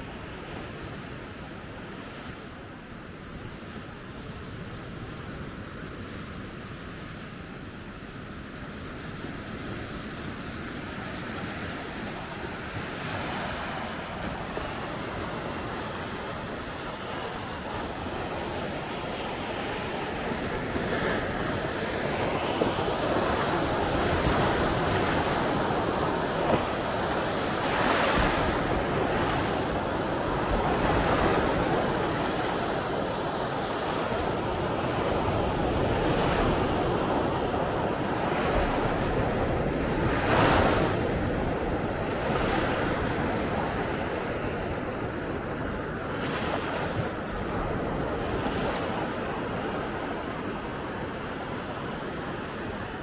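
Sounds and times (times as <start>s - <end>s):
sea waves breaking on beach: 0.0s - 53.0s
wind buffeting microphone: 3.0s - 53.0s.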